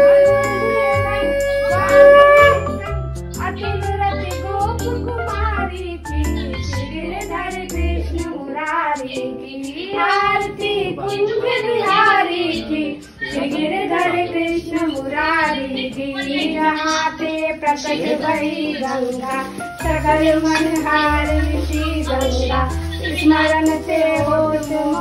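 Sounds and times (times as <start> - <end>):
high child-like voice singing: 0.0 - 2.8, 3.4 - 25.0
instrumental backing: 0.0 - 25.0.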